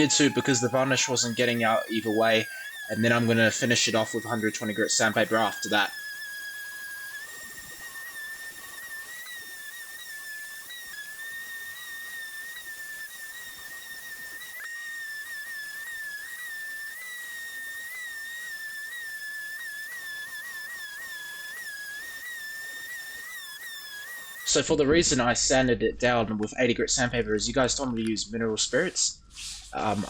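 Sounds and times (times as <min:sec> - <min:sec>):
electric sander whining: 0:00.0 - 0:24.6.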